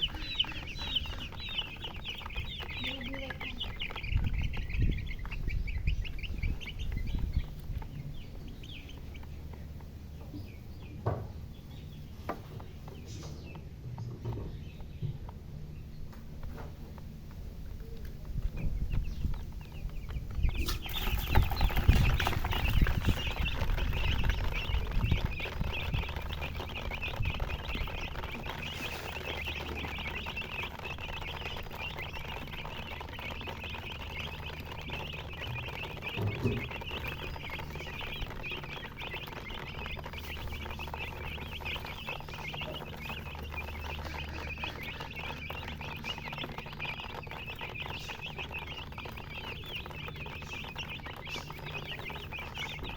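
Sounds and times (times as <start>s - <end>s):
baby chicks peeping: 0.0s - 52.9s
low knocks and rumbling: 0.0s - 52.9s.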